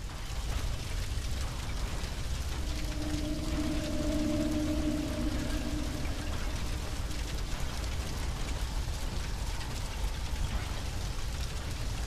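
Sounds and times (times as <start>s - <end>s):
fire crackles: 0.0s - 12.0s
large fire rushing and rumbling: 0.0s - 12.0s.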